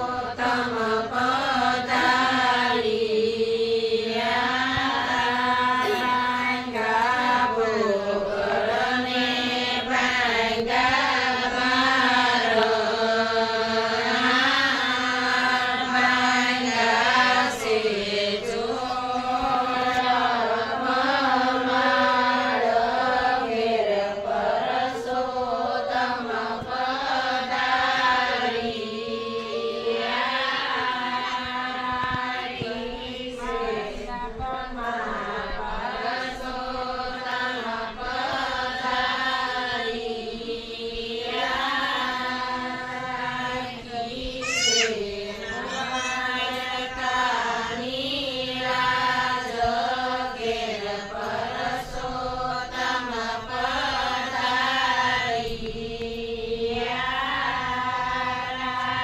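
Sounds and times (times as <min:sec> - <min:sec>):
devotional chanting: 0:00.0 - 0:59.0.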